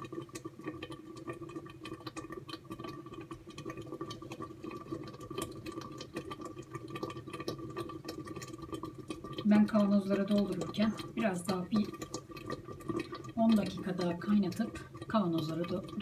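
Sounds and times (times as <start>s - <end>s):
thick sauce bubbling and popping: 0.0s - 16.0s.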